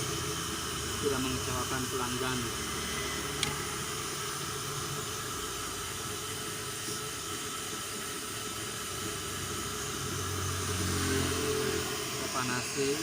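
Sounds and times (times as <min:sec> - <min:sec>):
hot-air gun hissing: 0:00.0 - 0:13.0.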